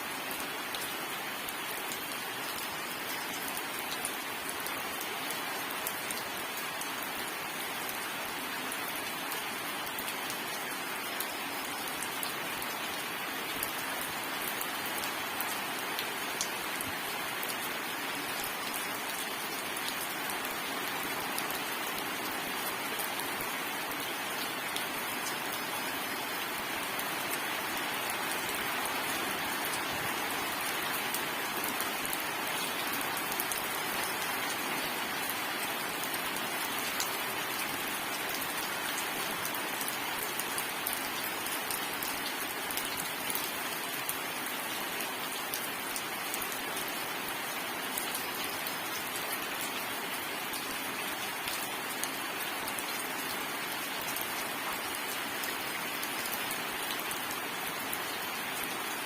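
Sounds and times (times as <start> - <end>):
heavy rain pattering: 0.1 - 47.4.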